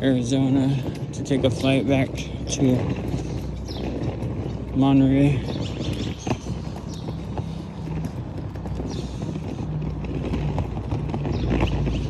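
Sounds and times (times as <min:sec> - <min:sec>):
footsteps on paved street: 0:00.0 - 0:12.0.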